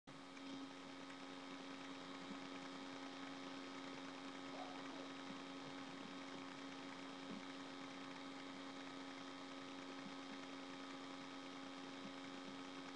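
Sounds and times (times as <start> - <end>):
electrical hum: 0.1 - 12.9.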